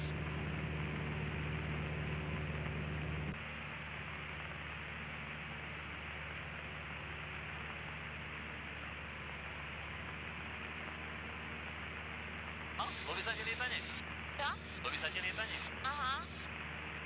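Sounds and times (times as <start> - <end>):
propeller plane engine running: 0.0 - 17.0.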